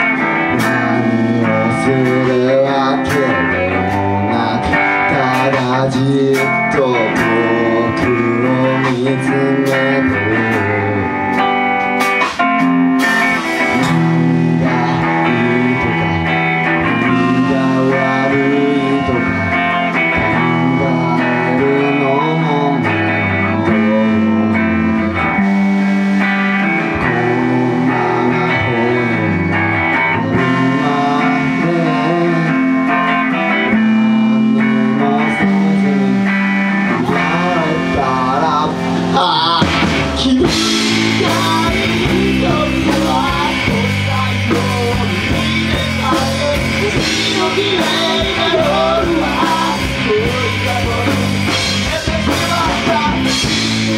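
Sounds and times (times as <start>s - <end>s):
live rock band playing: 0.0s - 53.9s
man singing: 0.0s - 53.9s.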